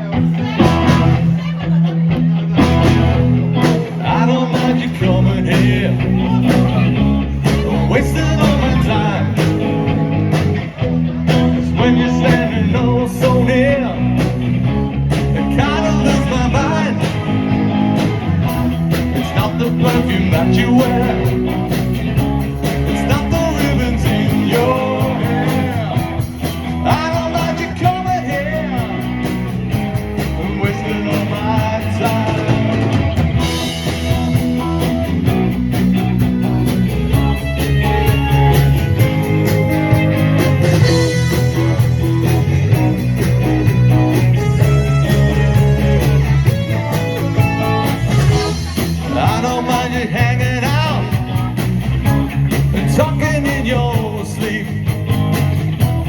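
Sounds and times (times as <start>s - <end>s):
rock band playing with singing: 0.0s - 56.0s.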